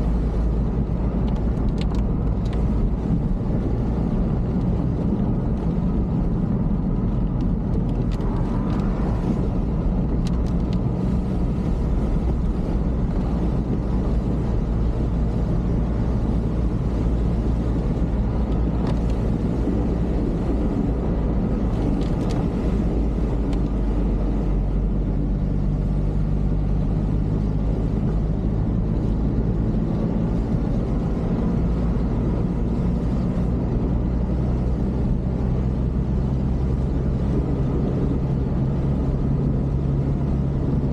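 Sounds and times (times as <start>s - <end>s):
road noise: 0.0s - 40.9s
vehicle engine drone: 0.0s - 40.9s.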